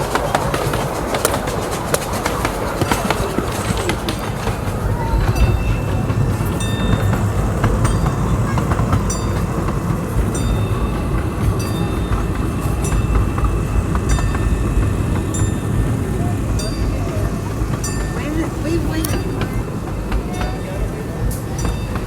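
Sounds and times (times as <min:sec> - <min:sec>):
rail clicks: 0:00.0 - 0:22.0
train rumbling on track: 0:00.0 - 0:22.0.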